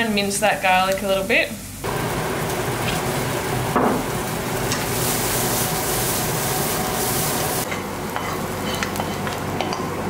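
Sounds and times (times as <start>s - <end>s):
onion sizzling in a frying pan: 0.0s - 10.0s.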